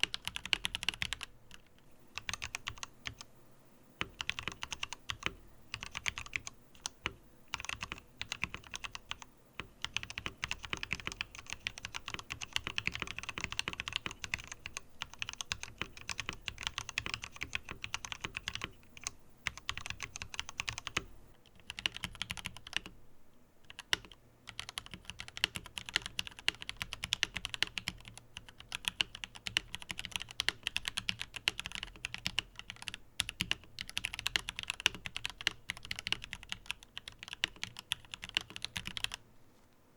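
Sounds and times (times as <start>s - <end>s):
mechanical keyboard typing: 0.0s - 3.3s, 4.0s - 22.9s, 23.7s - 39.2s.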